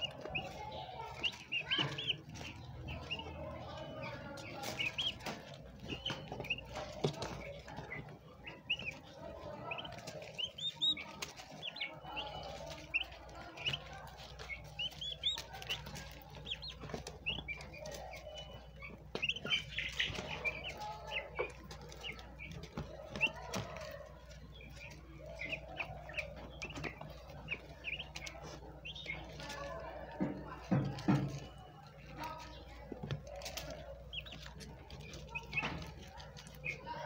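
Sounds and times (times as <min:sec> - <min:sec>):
pecking clicks and rustles: 0:00.0 - 0:37.0
turkey poults peeping: 0:00.0 - 0:37.0.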